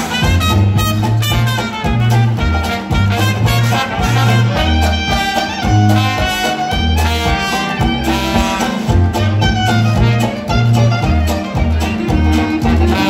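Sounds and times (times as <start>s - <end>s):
live jazz band: 0.0s - 13.0s
sousaphone bass line: 0.0s - 13.0s.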